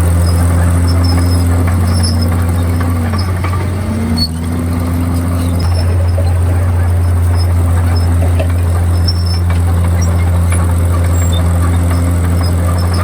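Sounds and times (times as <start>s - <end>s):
bulldozer diesel engine droning: 0.0s - 13.0s
faint high squeaks: 0.0s - 13.0s.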